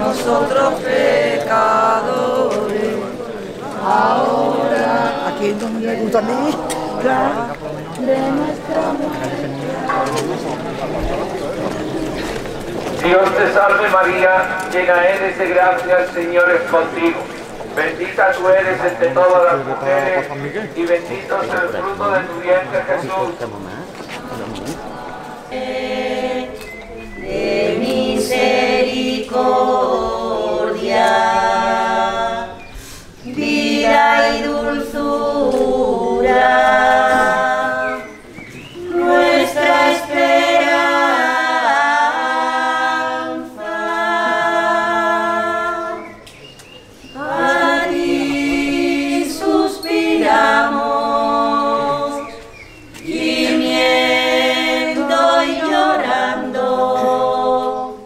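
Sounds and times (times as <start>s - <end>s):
unaccompanied religious singing: 0.0s - 58.0s.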